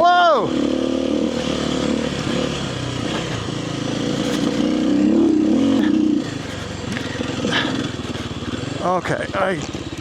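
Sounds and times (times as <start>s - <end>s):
dirt bike engine running: 0.2s - 10.0s.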